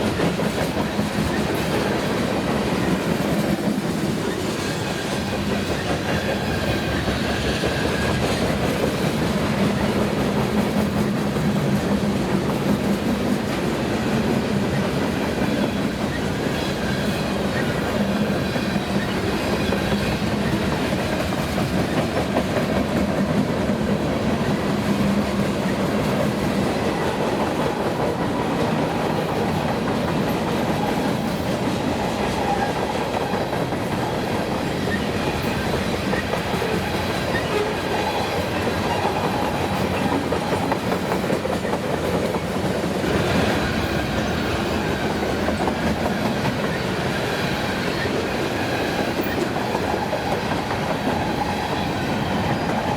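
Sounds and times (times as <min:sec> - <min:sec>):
freight train wheels clacking: 0:00.0 - 0:52.9.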